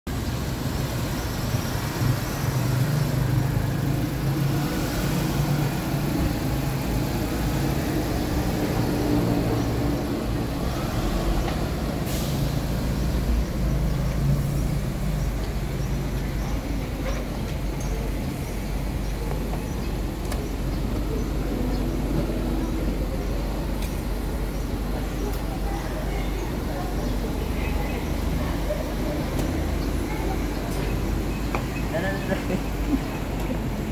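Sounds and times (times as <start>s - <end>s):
car and bus engines running: 0.1s - 33.9s
tyres on the road: 0.1s - 33.9s.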